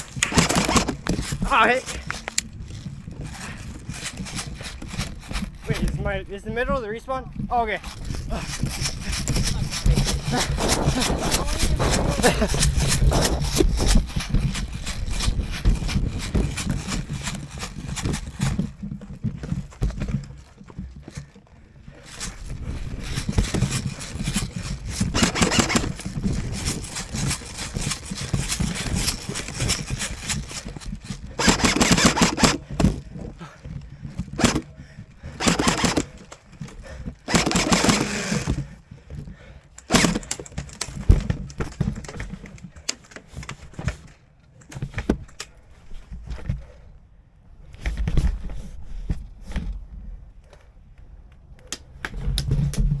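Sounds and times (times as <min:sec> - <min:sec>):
gear rustling and knocking: 0:00.0 - 0:53.0.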